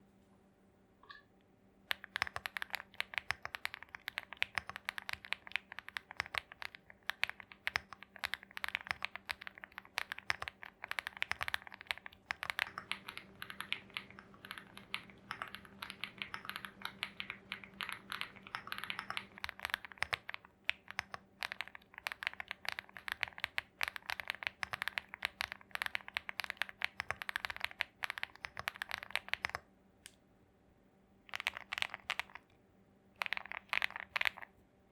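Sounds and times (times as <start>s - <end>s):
typing on mechanical keyboard: 1.9s - 29.6s, 31.3s - 32.5s, 33.2s - 34.5s.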